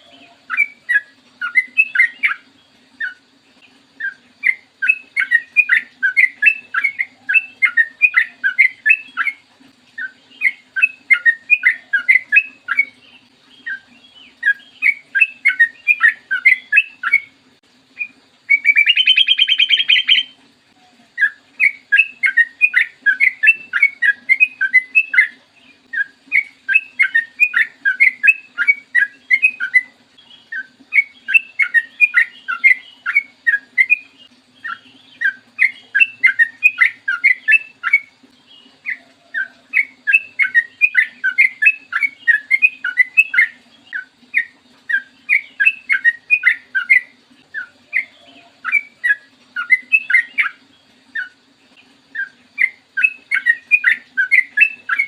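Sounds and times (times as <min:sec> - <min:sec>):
bird singing rapid bright notes: 0:00.0 - 0:17.3, 0:18.0 - 0:20.4, 0:21.2 - 0:51.4, 0:52.1 - 0:55.0.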